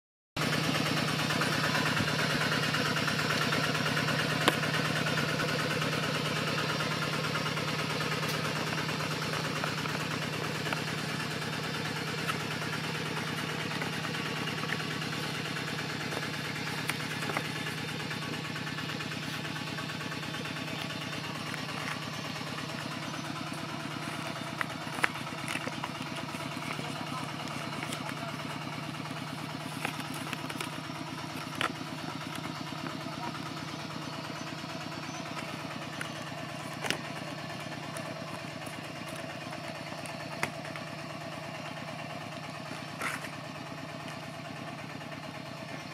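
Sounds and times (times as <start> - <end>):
motor humming: 0.4 - 45.9.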